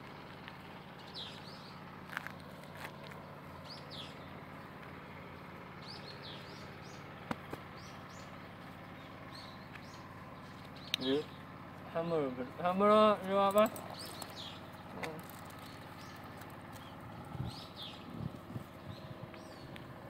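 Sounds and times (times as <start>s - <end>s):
low background hum: 0.0s - 20.0s
small birds chirping: 0.1s - 20.0s.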